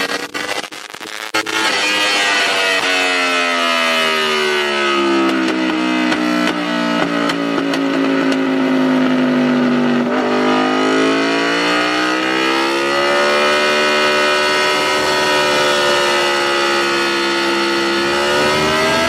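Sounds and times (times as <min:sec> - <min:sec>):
motorcycle engine at high revs: 0:01.4 - 0:19.0.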